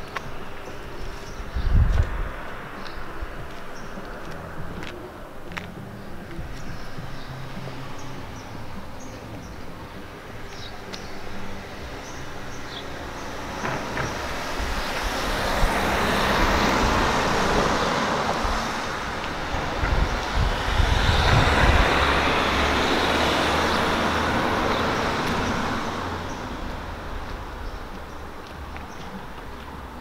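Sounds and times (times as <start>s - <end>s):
road noise: 0.0s - 30.0s
vehicle engine: 0.0s - 30.0s.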